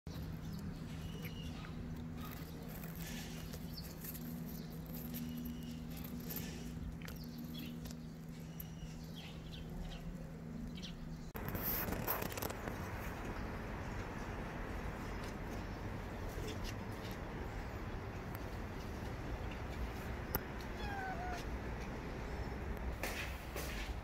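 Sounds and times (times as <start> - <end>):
even outdoor noise: 0.1 - 24.0.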